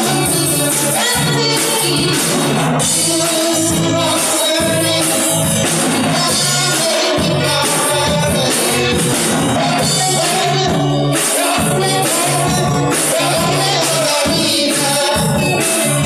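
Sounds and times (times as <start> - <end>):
woman singing into microphone: 0.0 - 15.8
drum kit: 0.0 - 16.0
electric guitars: 0.0 - 16.0.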